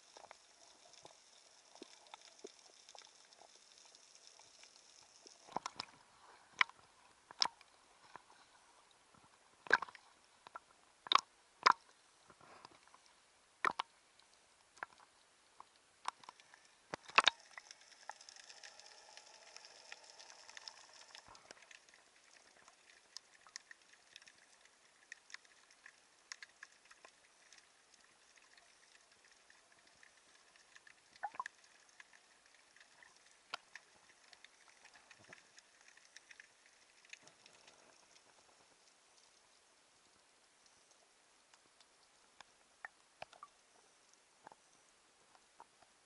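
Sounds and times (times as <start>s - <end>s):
faint clicks and crackles: 0.0s - 46.0s
soft hiss: 0.0s - 46.0s.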